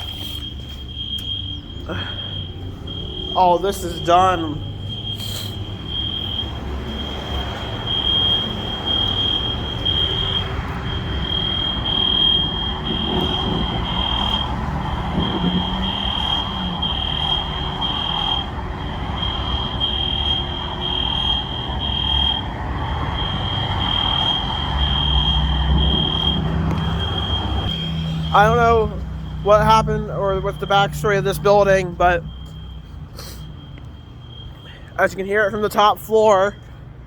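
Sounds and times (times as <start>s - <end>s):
fire alarm pulsing tone: 0.0s - 37.0s.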